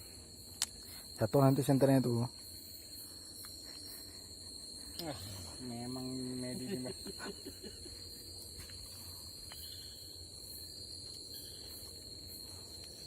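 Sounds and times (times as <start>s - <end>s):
faint insect ticks: 0.0s - 13.0s
insect chorus drone: 0.0s - 13.0s.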